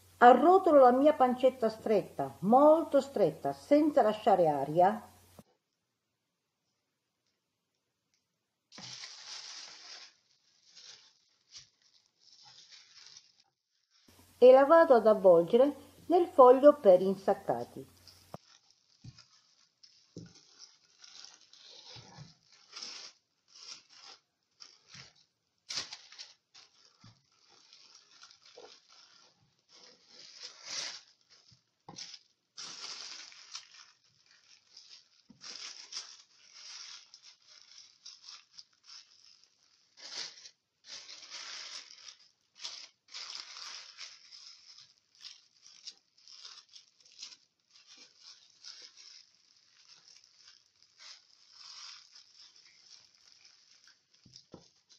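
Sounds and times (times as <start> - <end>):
casing sheet rustling and crackling: 8.7 - 14.4, 15.1 - 54.9.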